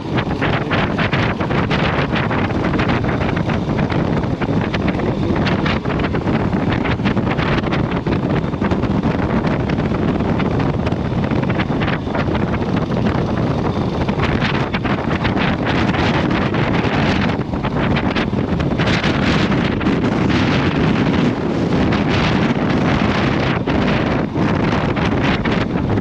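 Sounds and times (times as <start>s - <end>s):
motorcycle engine: 0.0s - 26.0s
road noise: 0.0s - 26.0s
wind buffeting microphone: 0.0s - 26.0s.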